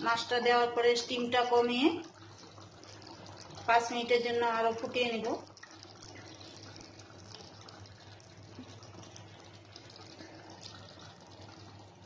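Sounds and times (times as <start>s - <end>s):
gravy simmering in a pan: 0.0s - 12.0s
low steady hum: 0.0s - 12.0s.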